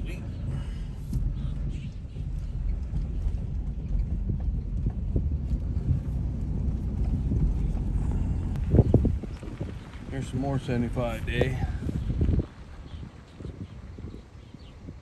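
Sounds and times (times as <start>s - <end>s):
vehicle engine and tyres rumbling: 0.0s - 15.0s
light knocks and rattles: 0.6s - 13.0s.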